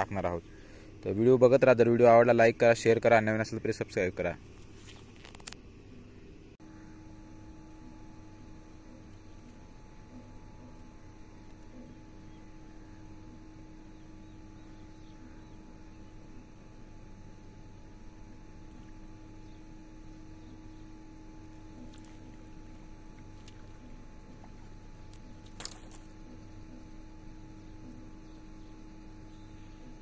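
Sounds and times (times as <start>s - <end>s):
low drone with steady tones: 0.0s - 30.0s.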